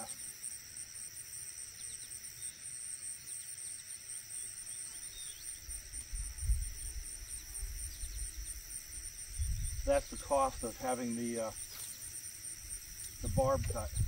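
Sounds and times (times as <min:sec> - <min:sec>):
insects trilling: 0:00.0 - 0:14.0
shrill pulsing insects: 0:00.0 - 0:14.0.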